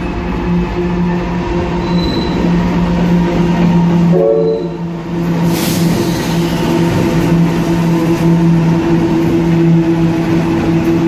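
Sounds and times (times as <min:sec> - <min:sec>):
locomotive engines droning: 0:00.0 - 0:11.0.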